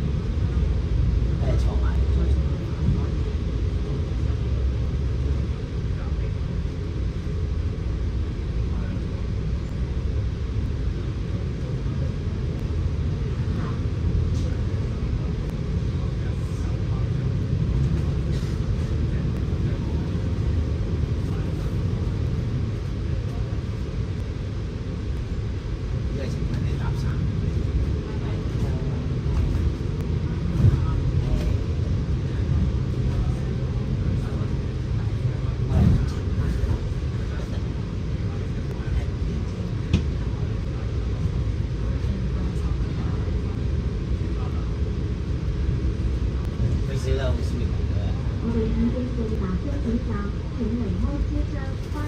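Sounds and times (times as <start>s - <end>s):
bus engine rumbling inside cabin: 0.0s - 52.0s.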